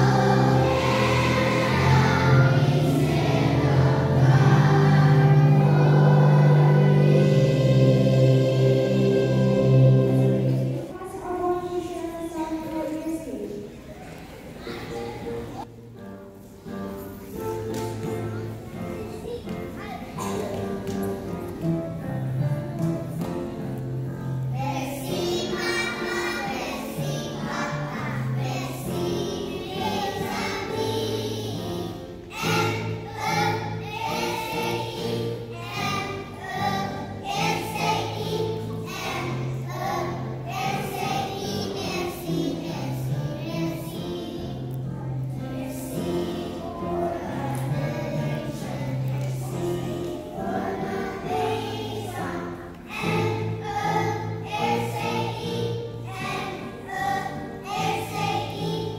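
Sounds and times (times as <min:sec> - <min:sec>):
children singing together: 0:00.0 - 0:12.3, 0:17.2 - 0:58.9.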